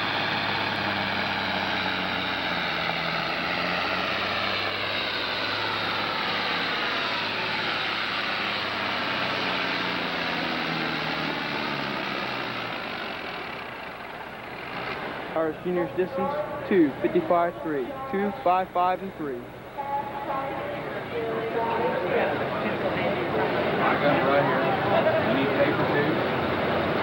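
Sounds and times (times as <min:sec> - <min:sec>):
diesel tractor engine running flat out: 0:00.0 - 0:27.0.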